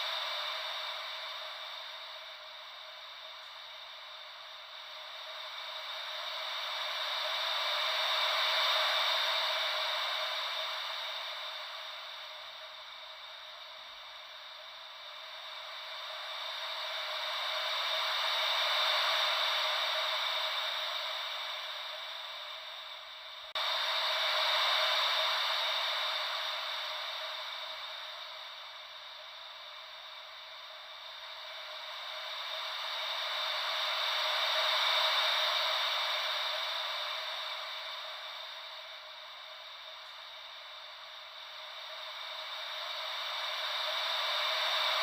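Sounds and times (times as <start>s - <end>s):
ocean waves washing in: 5.0s - 45.0s.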